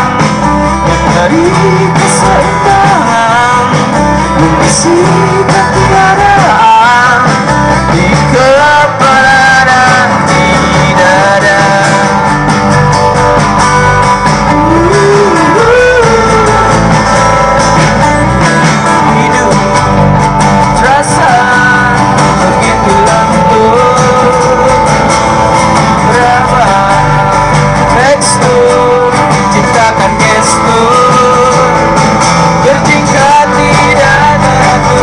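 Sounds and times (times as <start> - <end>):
person singing: 0.0 - 12.5, 14.4 - 35.0
full band playing: 0.0 - 35.0
strummed and plucked guitars: 0.0 - 35.0.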